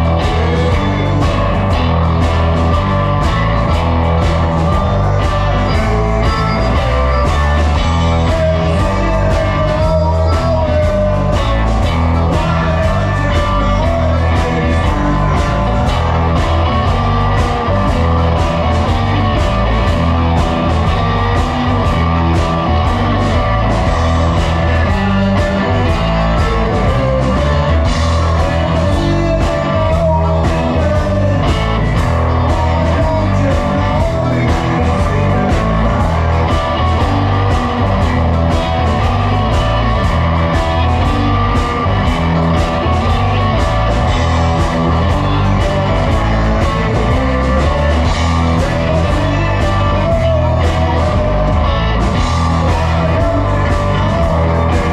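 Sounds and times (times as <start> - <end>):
electric guitar lead melody: 0.0 - 54.9
live blues-rock band: 0.0 - 54.9.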